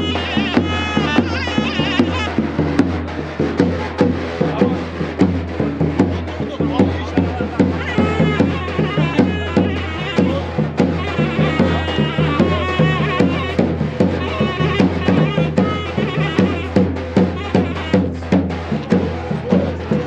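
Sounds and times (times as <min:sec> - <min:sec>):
folk dance music: 0:00.0 - 0:20.0.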